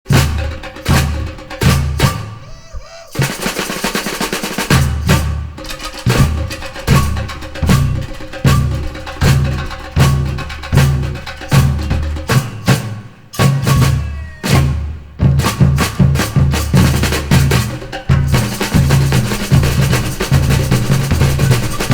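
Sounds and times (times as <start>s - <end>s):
bass drums pounding a beat: 0.1s - 21.9s
snare drum roll: 0.1s - 21.9s.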